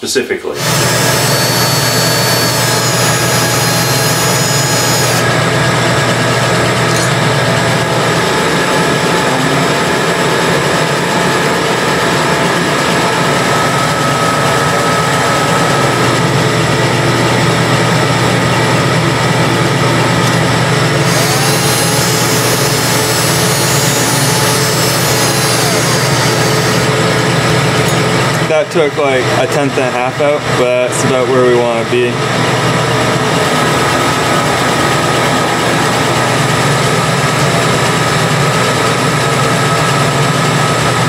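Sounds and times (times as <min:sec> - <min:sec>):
power hone running: 0:00.5 - 0:41.0.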